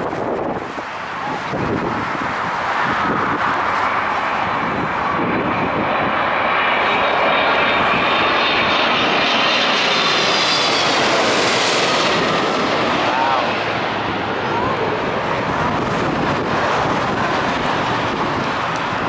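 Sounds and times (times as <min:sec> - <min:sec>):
airliner engines passing overhead: 0:00.0 - 0:19.0.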